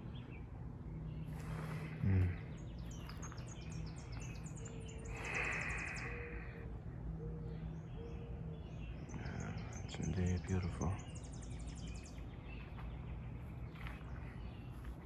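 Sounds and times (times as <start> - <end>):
birds chirping: 0.0 - 15.0
faint low hum: 0.0 - 15.0.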